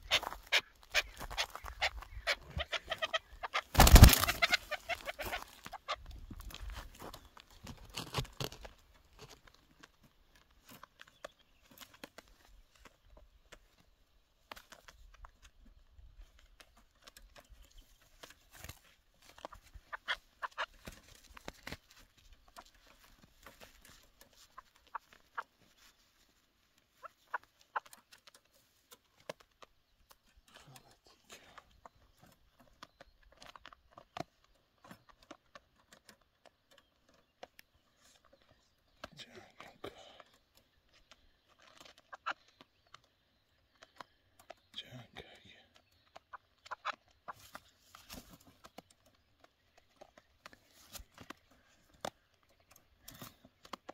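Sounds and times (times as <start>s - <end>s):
clicks and taps in wire cage: 7.6s - 25.9s, 26.7s - 53.9s.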